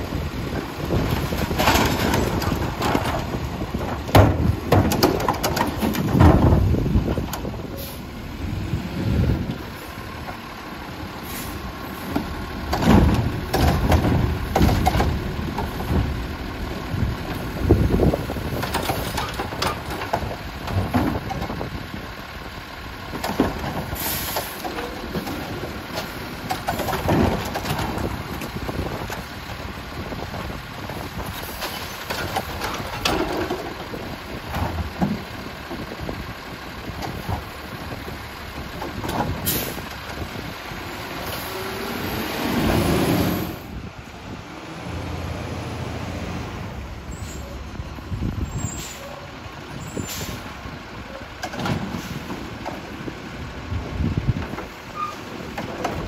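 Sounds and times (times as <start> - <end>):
knocks and clatter of carts dumped: 0.0 - 10.5, 11.2 - 43.8, 46.9 - 56.0
garbage truck engine running: 0.0 - 56.0.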